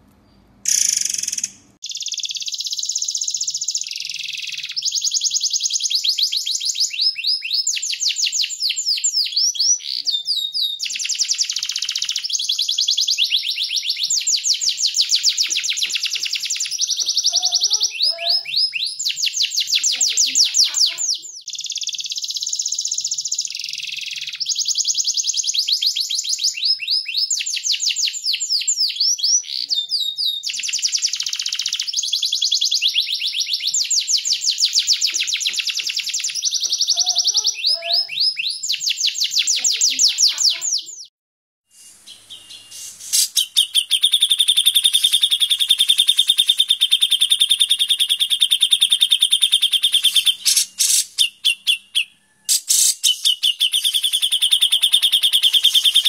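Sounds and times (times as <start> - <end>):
songbirds giving harsh calls: 0.6 - 41.1, 41.8 - 56.0.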